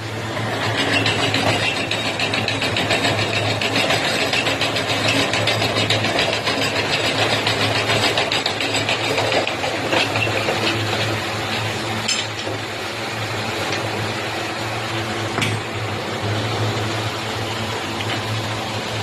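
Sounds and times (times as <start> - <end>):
motor humming and rattling: 0.0 - 19.0.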